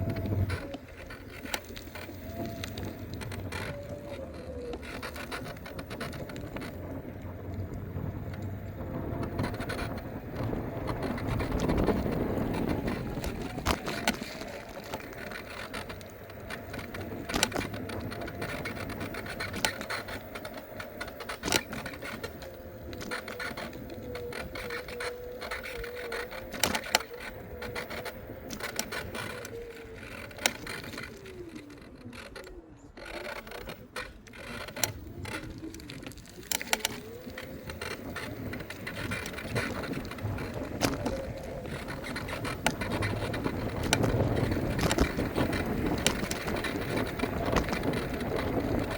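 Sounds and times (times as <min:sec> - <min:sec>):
electric scooter motor whine: 0:00.0 - 0:48.9
scooter rattles and knocks: 0:00.0 - 0:48.9.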